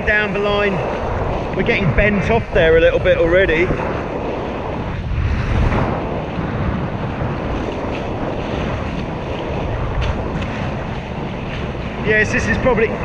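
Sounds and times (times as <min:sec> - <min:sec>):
water rushing along hulls: 0:00.0 - 0:13.0
wind buffeting microphone: 0:00.0 - 0:13.0.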